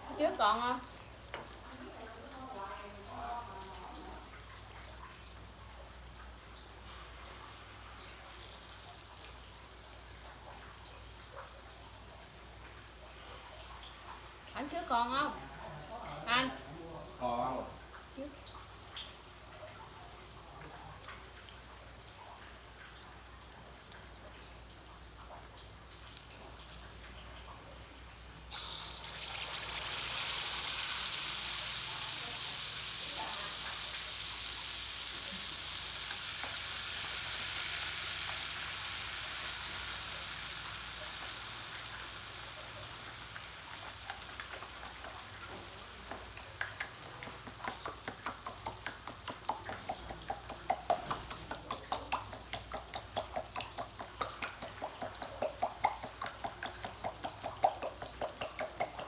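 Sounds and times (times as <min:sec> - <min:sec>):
oil crackling and popping: 0:00.0 - 0:13.0, 0:19.9 - 0:59.0
cakes sizzling in hot oil: 0:00.0 - 0:59.0.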